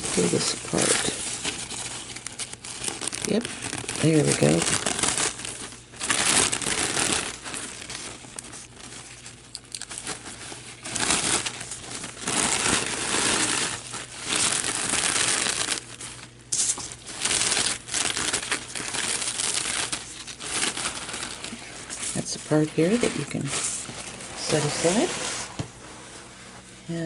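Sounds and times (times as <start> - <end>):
paper napkin crinkling: 0.0 - 26.7.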